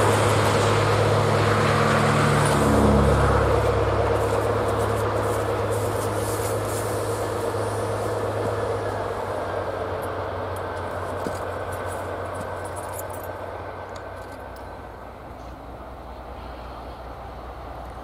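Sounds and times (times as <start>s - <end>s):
diesel locomotive engine hum: 0.0s - 18.0s
train wheels rolling on rails: 0.0s - 18.0s.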